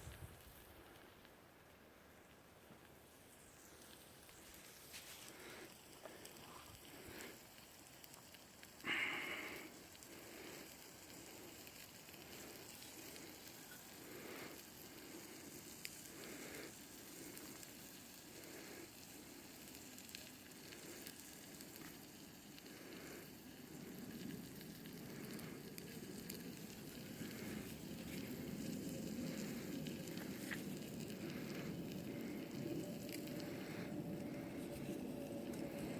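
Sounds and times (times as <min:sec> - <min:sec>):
fire crackling and sizzling: 0:00.0 - 0:35.9
sharp pops from fire: 0:03.7 - 0:34.6.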